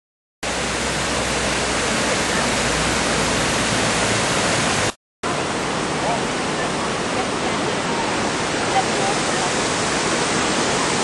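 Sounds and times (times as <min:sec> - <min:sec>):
water rushing steadily: 0:00.4 - 0:11.0.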